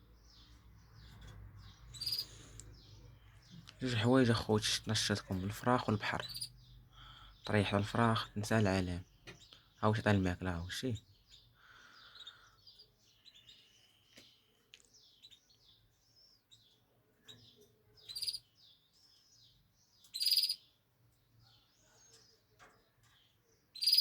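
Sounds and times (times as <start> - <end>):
birds chirping and twittering: 0.0 - 24.0
harsh bird calls: 0.0 - 24.0.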